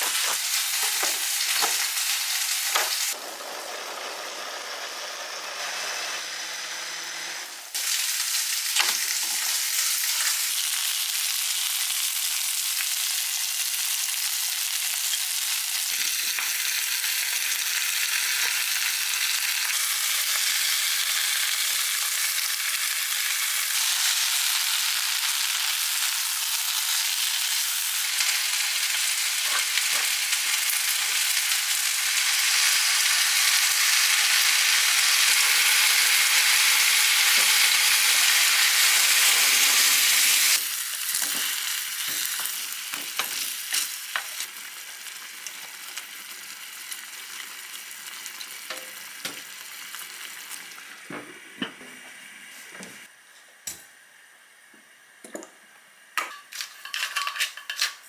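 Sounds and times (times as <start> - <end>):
food sizzling in a wok: 0.0 - 53.1.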